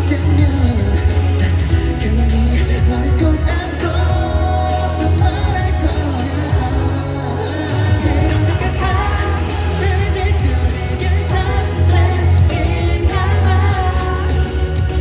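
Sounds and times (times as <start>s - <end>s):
heavy steady bass: 0.0s - 15.0s
person singing: 0.0s - 15.0s.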